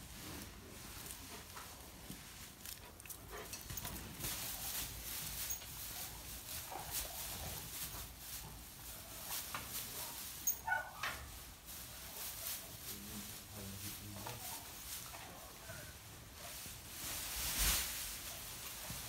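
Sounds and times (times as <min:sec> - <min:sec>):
rustling and scuffling in straw: 0:00.0 - 0:19.0.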